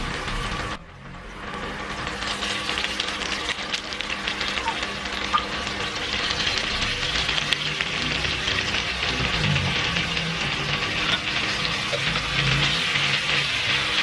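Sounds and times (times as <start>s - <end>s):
food frying in a pan: 0.0s - 14.0s.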